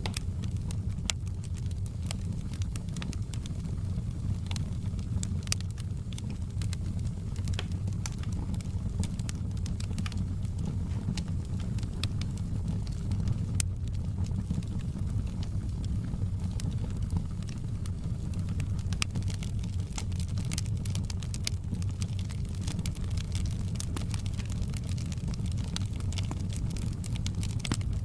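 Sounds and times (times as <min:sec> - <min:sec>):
low rumble of burning: 0:00.0 - 0:28.0
wood fire crackling and popping: 0:00.0 - 0:28.0.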